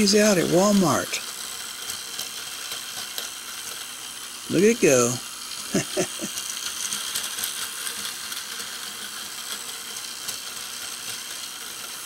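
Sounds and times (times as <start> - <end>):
toy train motor whirring: 0.0 - 12.0.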